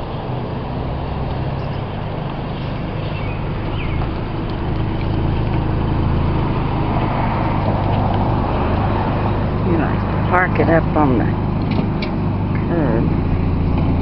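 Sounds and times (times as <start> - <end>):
car engine running: 0.0 - 14.0
road noise: 0.0 - 14.0.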